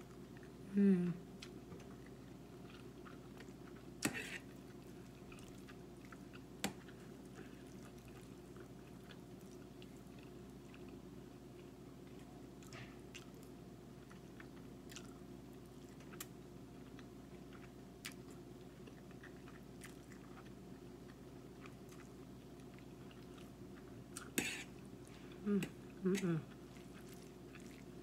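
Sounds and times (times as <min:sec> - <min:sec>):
faint chewing: 0:01.4 - 0:28.0.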